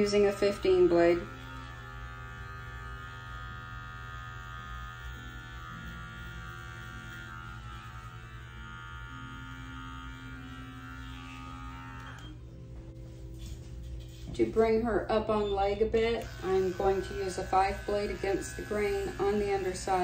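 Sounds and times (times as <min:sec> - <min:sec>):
electric clippers buzzing: 0:00.0 - 0:12.6, 0:15.2 - 0:20.0.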